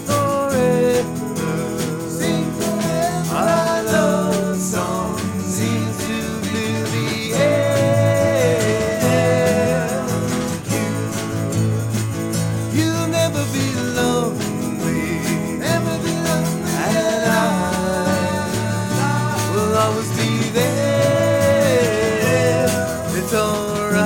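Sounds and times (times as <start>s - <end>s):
man singing: 0.0s - 11.8s, 12.6s - 24.0s
strummed acoustic guitar: 0.0s - 24.0s.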